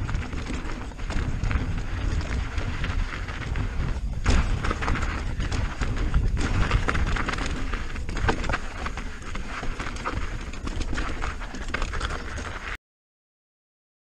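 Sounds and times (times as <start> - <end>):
bike rattling over stones: 0.0 - 12.8
tyres crunching on gravel: 0.0 - 12.8
wind rumbling on microphone: 0.0 - 12.8.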